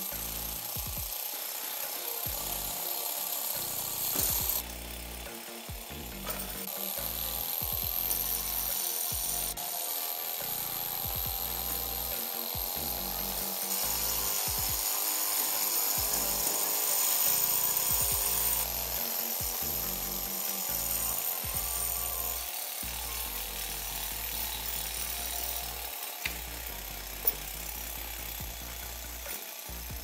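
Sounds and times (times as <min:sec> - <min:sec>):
small engine running and rattling: 0:00.0 - 0:30.0.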